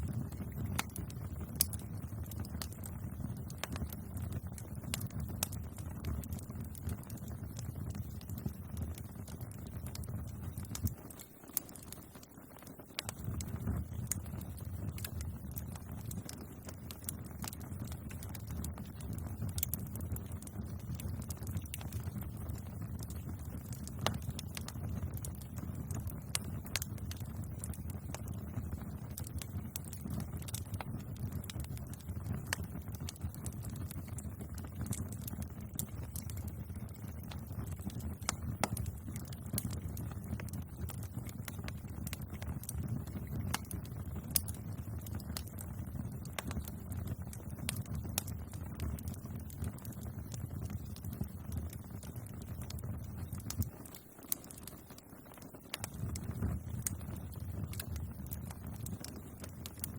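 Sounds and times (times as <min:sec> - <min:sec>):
bonfire crackling: 0:00.0 - 0:59.9.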